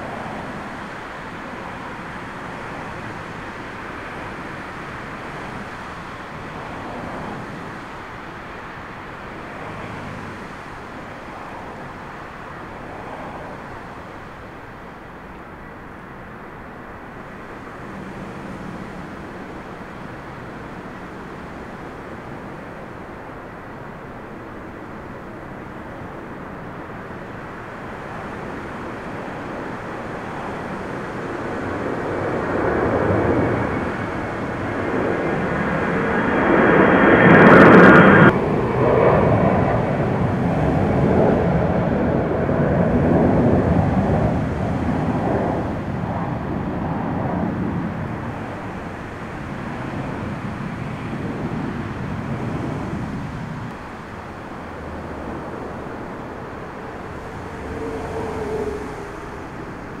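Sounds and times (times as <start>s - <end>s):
distant jet rumble: 0.0s - 60.0s
jet engines roaring overhead: 0.0s - 60.0s.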